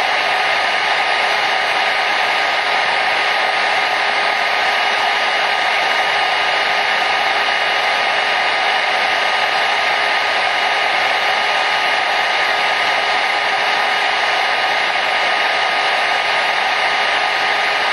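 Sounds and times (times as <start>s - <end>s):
hair dryer airflow rushing: 0.0s - 17.9s.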